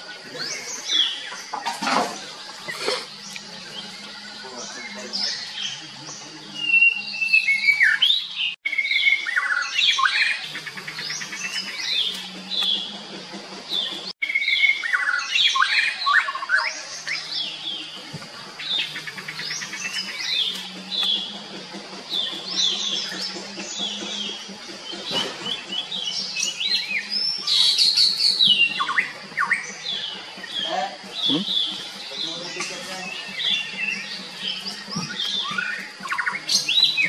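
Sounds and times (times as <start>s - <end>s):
birds chirping and whistling: 0.0s - 37.0s.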